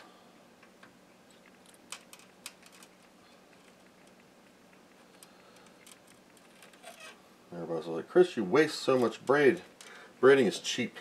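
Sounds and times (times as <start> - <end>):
steady faint hum: 0.0 - 11.0.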